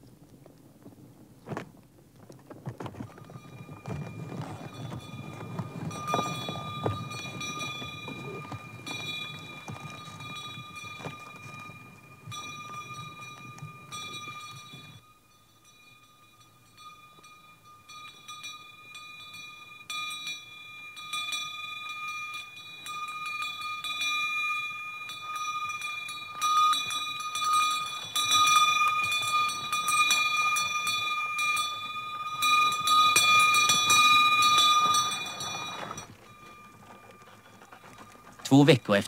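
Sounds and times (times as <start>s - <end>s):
harness bells jingling: 2.5s - 39.0s.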